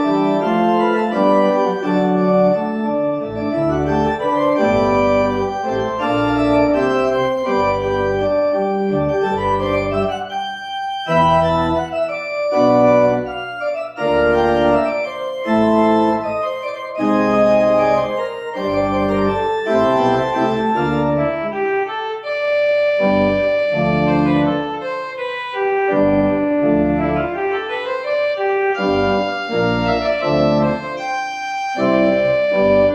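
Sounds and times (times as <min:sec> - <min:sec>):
organ music: 0:00.0 - 0:32.9.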